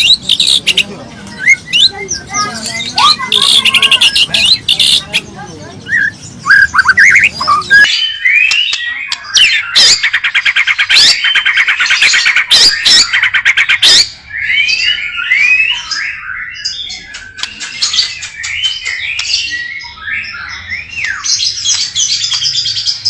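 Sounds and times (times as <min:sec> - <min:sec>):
bird singing whistled song: 0:00.0 - 0:05.2, 0:05.8 - 0:23.0.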